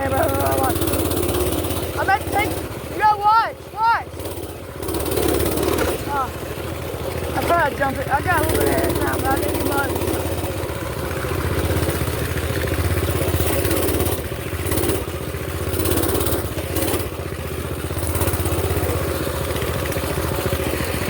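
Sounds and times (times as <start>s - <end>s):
mini bike engine revving: 0.0s - 21.0s.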